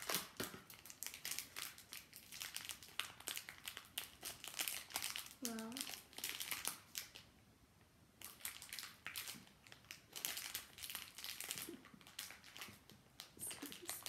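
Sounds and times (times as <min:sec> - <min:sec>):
foil packet crinkling: 0:00.0 - 0:07.3, 0:08.2 - 0:14.0.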